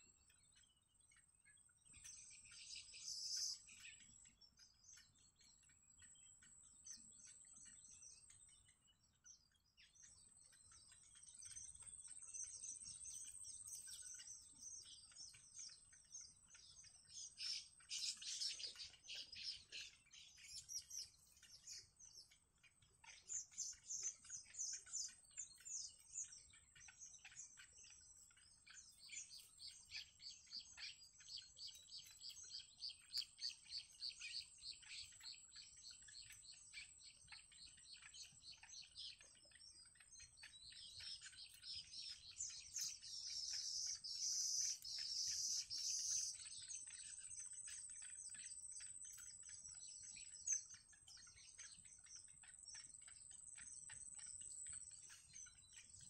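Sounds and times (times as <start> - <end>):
bird chicks chirping: 0.0 - 56.0.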